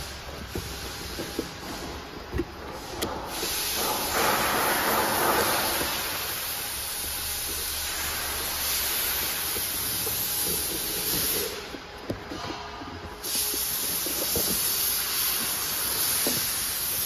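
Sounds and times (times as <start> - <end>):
cardboard scraping and rustling: 0.0 - 17.0
steady hiss: 0.0 - 17.0.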